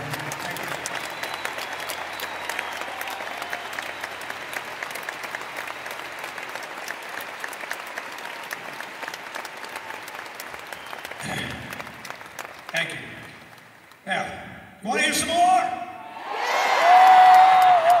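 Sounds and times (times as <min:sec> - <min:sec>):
audience applauding: 0:00.0 - 0:14.0, 0:16.3 - 0:18.0.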